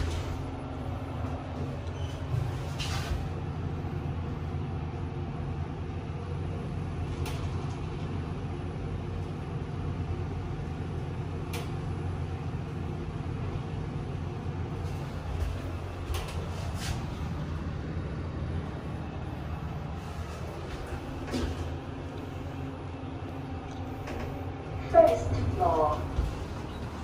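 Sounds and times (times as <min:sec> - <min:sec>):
lift hum and rumble: 0:00.0 - 0:27.0.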